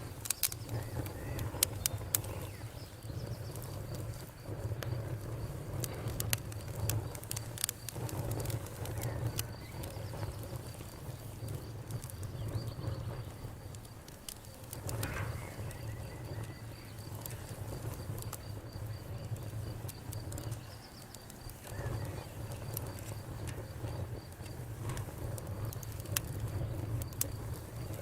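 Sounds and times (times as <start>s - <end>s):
fire low rumble: 0.0s - 28.0s
wood crackling and popping: 0.0s - 28.0s.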